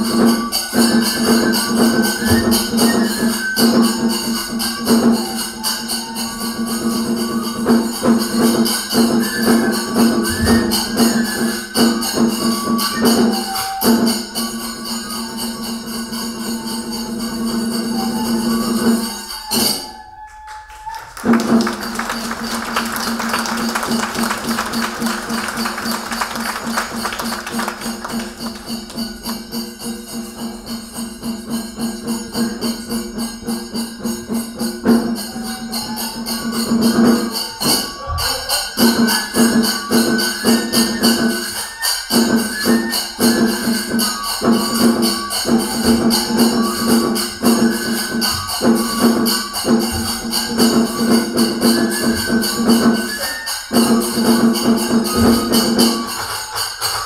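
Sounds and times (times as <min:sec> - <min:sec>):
bamboo flute melody: 0:00.0 - 0:57.0
small hand cymbals clashing: 0:00.0 - 0:57.0.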